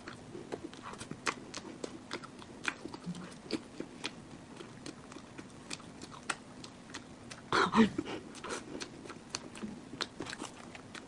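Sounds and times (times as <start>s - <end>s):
close chewing mouth clicks: 0.0s - 7.5s, 8.3s - 11.0s.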